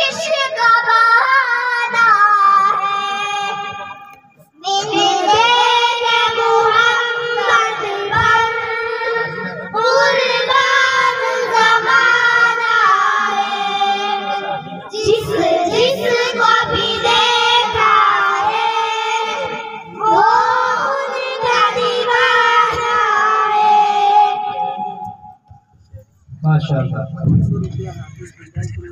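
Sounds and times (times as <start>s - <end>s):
girls singing together: 0.0s - 4.0s, 4.6s - 24.9s.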